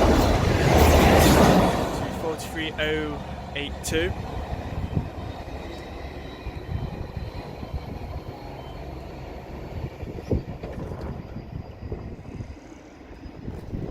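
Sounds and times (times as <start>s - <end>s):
train wheels rumbling on rails: 0.0s - 13.9s.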